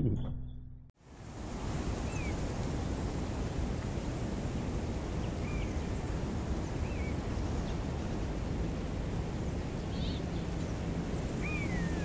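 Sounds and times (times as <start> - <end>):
wind noise: 1.0 - 12.0.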